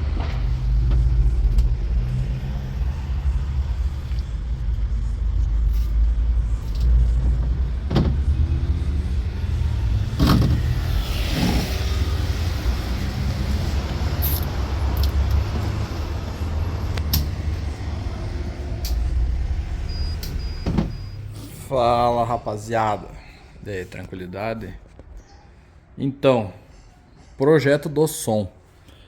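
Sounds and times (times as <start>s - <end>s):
car engine idling: 0.0s - 23.4s.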